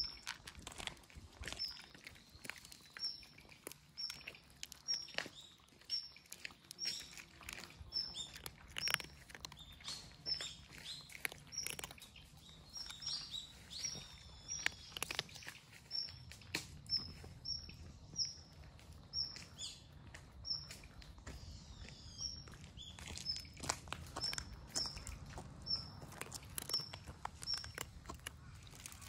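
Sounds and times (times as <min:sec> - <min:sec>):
cats lapping milk: 0:00.0 - 0:20.9, 0:23.0 - 0:29.0
cats crunching dry kibble: 0:00.0 - 0:29.0
bird chirping: 0:01.4 - 0:29.0.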